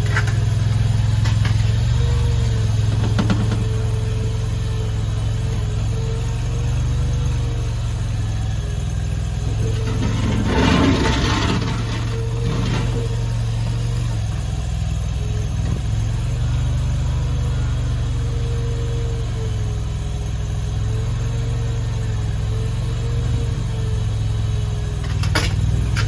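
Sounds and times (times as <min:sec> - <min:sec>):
gasoline engine running: 0:00.0 - 0:26.0.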